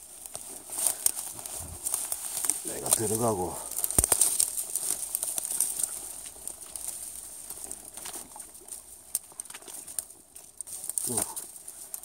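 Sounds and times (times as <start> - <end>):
reeds and grass rustling: 0.0 - 12.0
small clicks and snaps: 0.2 - 12.0.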